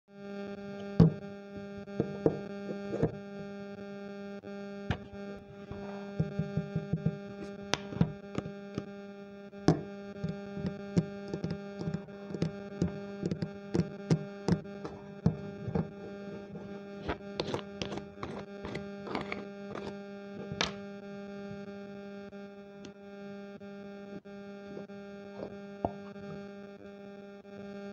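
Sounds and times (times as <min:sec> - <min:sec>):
electrical hum: 0:00.2 - 0:27.9.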